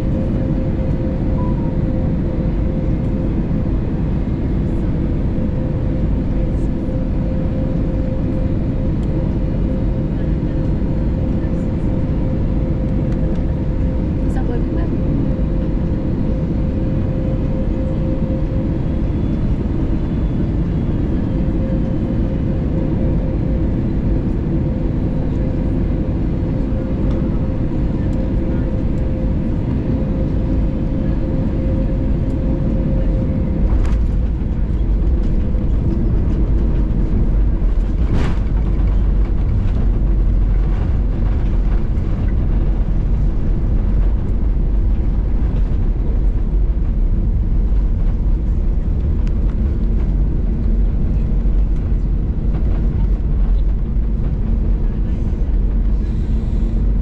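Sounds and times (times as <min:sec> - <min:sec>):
airplane cabin roar: 0:00.0 - 0:57.0
steady hum: 0:00.0 - 0:57.0.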